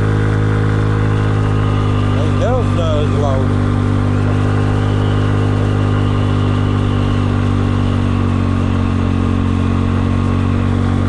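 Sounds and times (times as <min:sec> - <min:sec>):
scooter engine cruising drone: 0:00.0 - 0:11.0.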